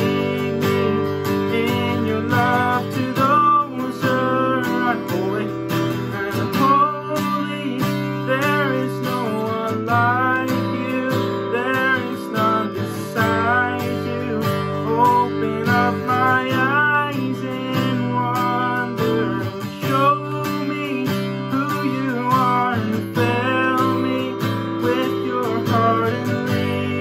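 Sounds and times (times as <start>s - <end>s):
acoustic guitar strumming: 0.0s - 27.0s
man singing: 0.0s - 27.0s.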